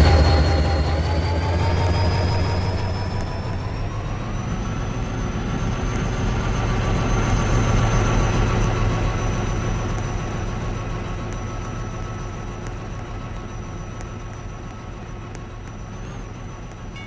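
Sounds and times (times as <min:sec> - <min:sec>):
high whine: 0:00.0 - 0:17.0
train engine rumble: 0:00.0 - 0:17.0.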